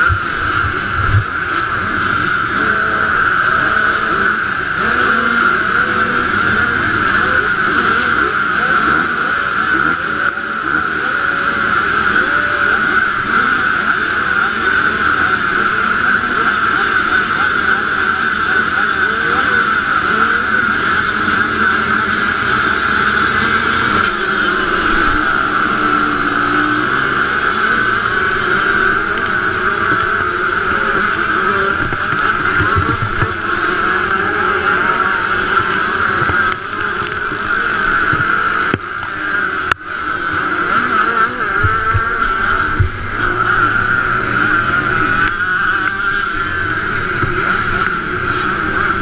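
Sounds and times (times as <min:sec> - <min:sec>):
pack of motorbikes racing: 0:00.0 - 0:49.0.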